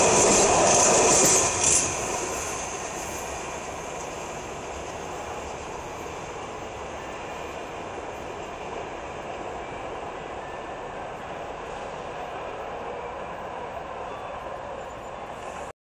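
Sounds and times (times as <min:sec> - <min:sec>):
train running on tracks: 0:00.0 - 0:15.7.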